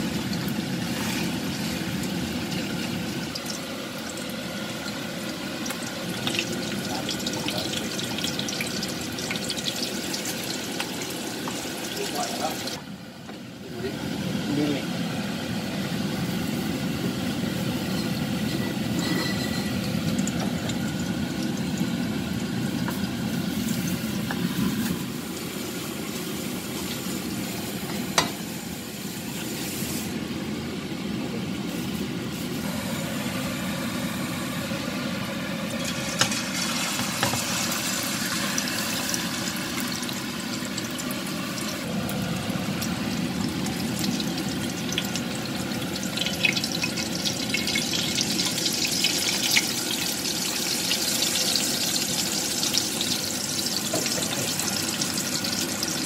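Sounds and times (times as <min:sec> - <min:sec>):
patty sizzling in oil: 0:00.0 - 0:12.8, 0:16.1 - 0:30.3, 0:35.6 - 0:56.0.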